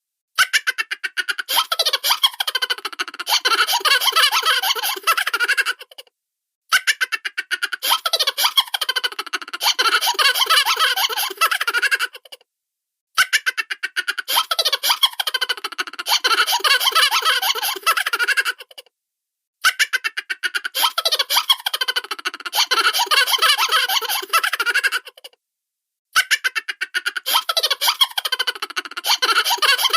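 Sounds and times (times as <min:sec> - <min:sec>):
cartoon laughter: 0:00.4 - 0:06.1, 0:06.7 - 0:12.4, 0:13.2 - 0:18.9, 0:19.6 - 0:25.4, 0:26.2 - 0:29.9.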